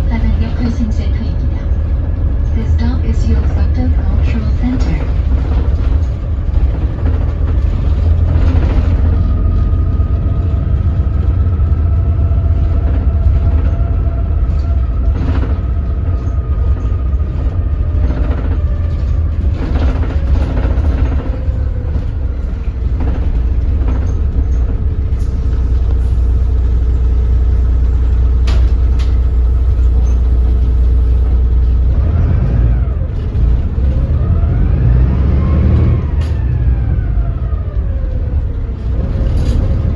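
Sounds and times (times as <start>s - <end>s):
diesel bus engine rumble: 0.0s - 39.9s.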